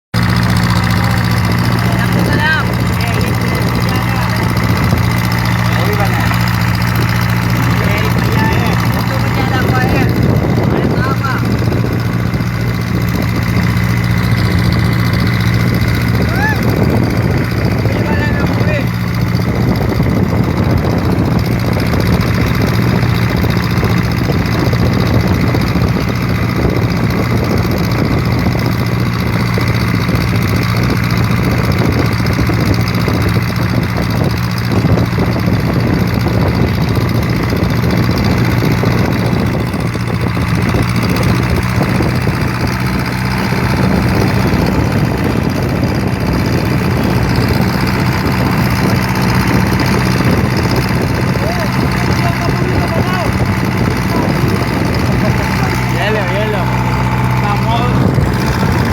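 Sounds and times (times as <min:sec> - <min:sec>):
engine idling: 0:00.1 - 0:58.9.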